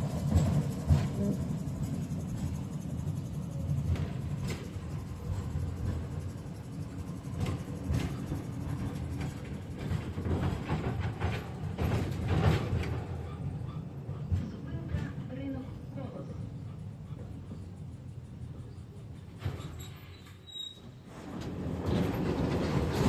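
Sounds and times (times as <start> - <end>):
tram rumbling on track: 0.0 - 23.0
wheels clacking on rails: 0.0 - 23.0.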